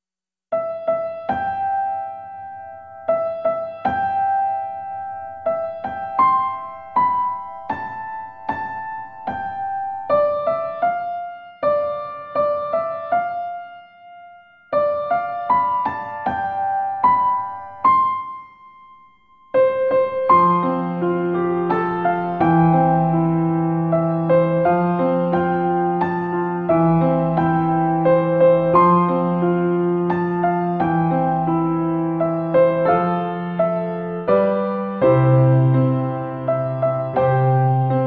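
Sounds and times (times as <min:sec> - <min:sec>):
gentle slow piano music: 0:00.5 - 0:38.0.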